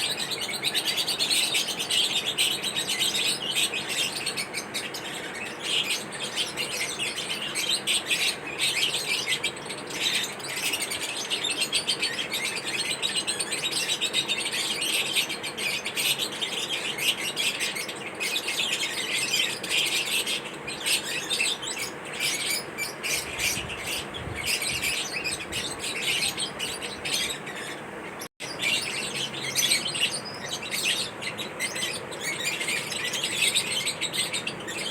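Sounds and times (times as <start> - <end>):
lovebirds chirping: 0.0 - 34.9.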